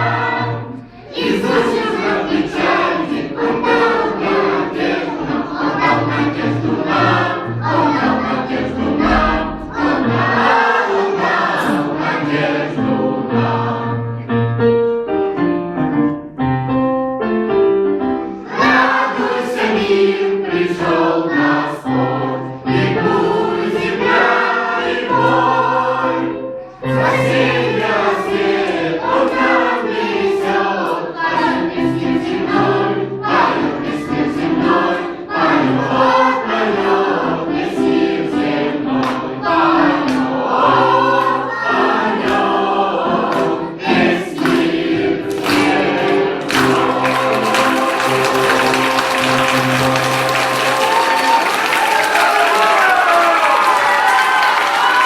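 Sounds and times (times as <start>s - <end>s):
choir singing: 0.0s - 15.2s, 18.0s - 55.0s.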